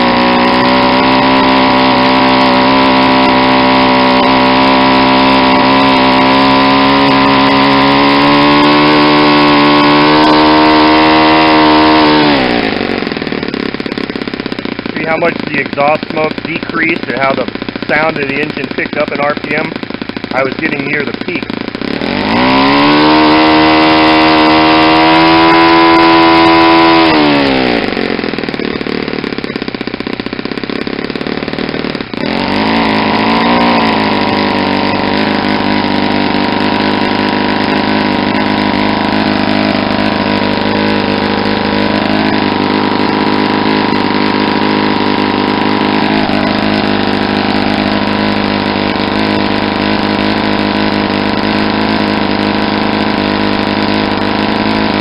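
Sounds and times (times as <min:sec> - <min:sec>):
model engine revving propeller: 0:00.0 - 0:55.0.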